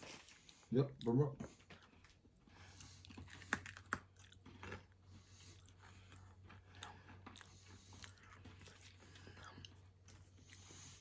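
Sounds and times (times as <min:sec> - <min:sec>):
chewing hard candy: 0:00.0 - 0:11.0.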